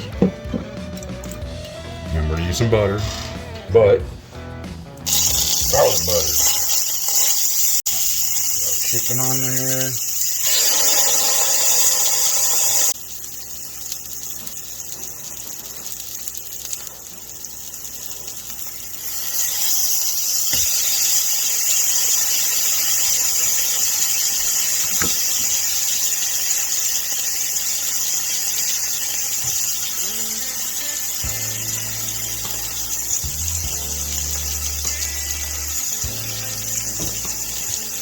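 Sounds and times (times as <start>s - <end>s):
chicken sizzling in hot oil: 5.0s - 38.0s.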